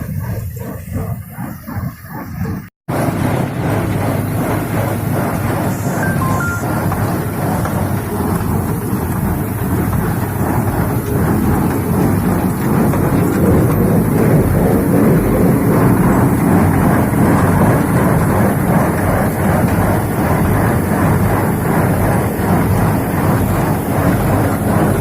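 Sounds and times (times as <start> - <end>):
tractor and baler rumbling: 0.0 - 25.0.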